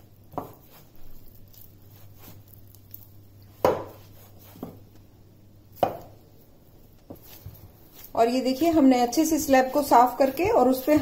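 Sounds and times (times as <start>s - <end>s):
faint steady hum: 0.0s - 11.0s
hand kneading dough: 0.0s - 11.0s.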